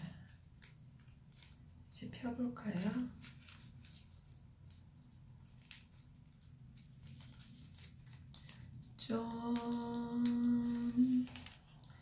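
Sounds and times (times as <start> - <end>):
paper rustling and crinkling: 0.2 - 1.7, 2.6 - 8.9, 9.6 - 12.0.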